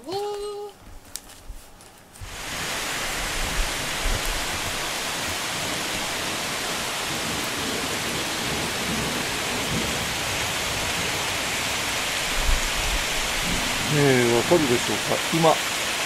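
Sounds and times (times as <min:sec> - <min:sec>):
heavy rain falling: 0:02.2 - 0:16.0.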